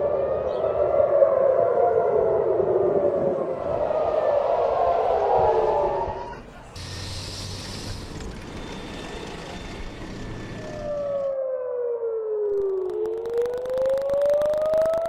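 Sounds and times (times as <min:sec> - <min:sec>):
air raid siren wailing: 0:00.0 - 0:06.9, 0:08.2 - 0:15.0.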